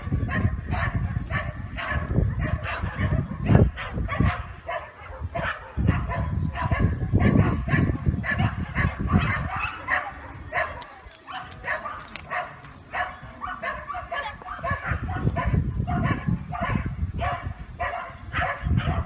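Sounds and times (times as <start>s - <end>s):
dog barking: 0.0s - 19.0s.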